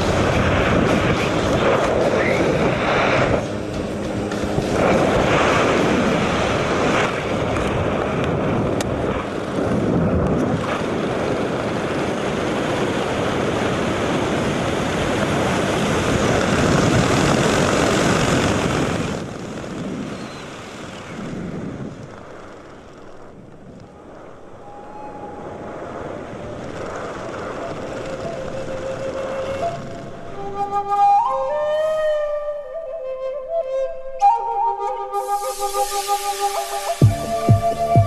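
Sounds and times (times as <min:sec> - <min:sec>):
wind roaring across microphone: 0:00.0 - 0:38.0.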